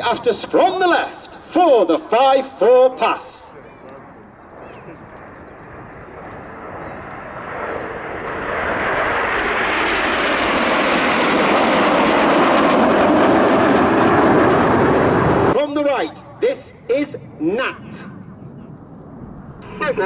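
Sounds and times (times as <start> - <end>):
jets flying low pass: 0.0 - 20.0.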